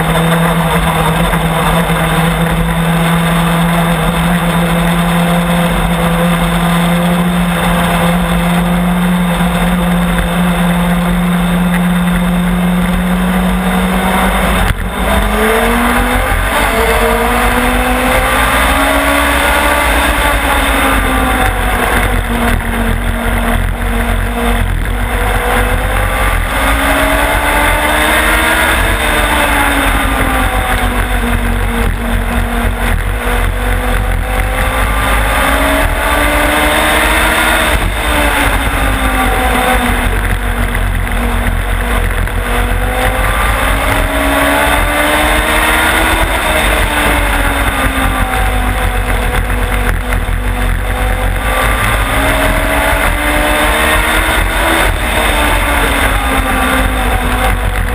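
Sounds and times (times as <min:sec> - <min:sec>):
race car engine accelerating: 0:00.0 - 0:57.9
steady rush of noise: 0:00.0 - 0:57.9.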